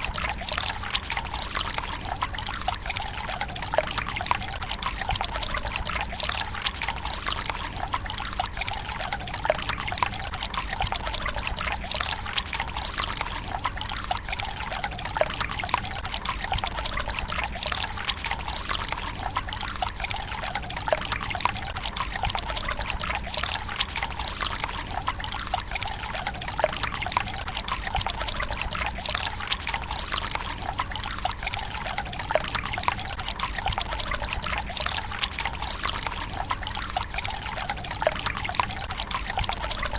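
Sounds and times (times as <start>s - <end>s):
water trickling into stone basin: 0.0s - 39.9s.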